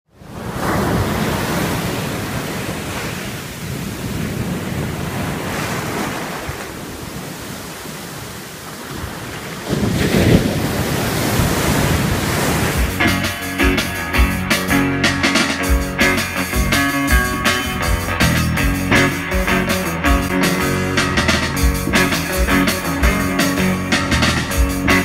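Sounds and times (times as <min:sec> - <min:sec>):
ocean surf breaking on beach: 0:00.1 - 0:25.0.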